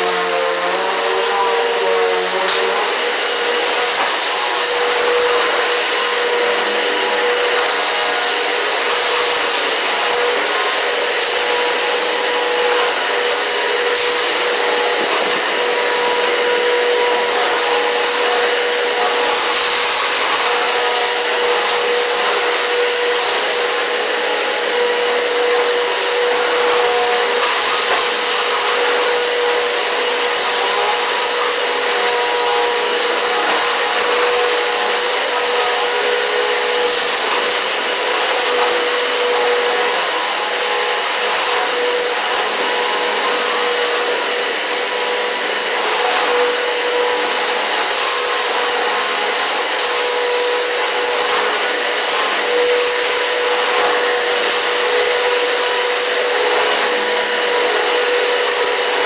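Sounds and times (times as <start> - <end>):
vacuum cleaner whining: 0.0 - 59.0
vacuum hiss on floor: 0.0 - 59.0.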